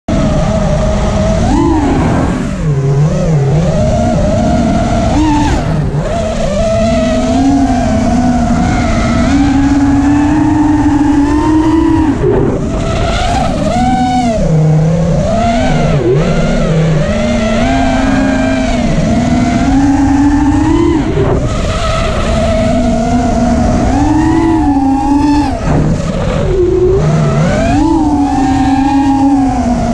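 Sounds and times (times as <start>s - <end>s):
drone motors whining: 0.1s - 29.9s
wind rumble on microphone: 0.1s - 29.9s.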